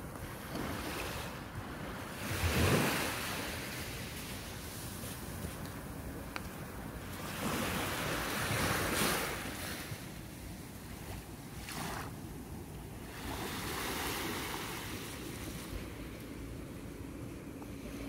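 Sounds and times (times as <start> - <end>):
small waves on sandy beach: 0.0 - 18.0.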